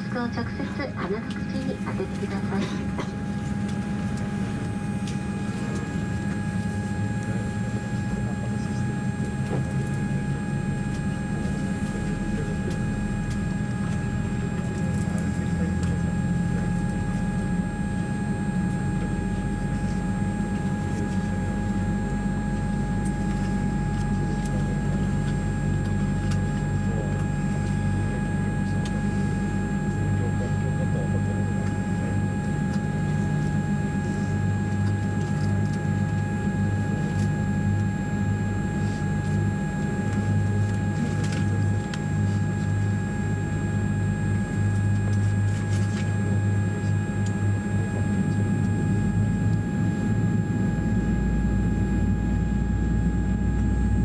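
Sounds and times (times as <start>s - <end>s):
faint steady whine: 0.0s - 54.0s
low hum of airliner engines: 0.0s - 54.0s.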